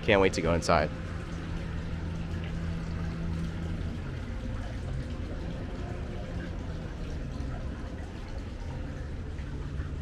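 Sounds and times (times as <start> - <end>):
low mechanical hum: 0.0 - 10.0
running water: 0.0 - 10.0.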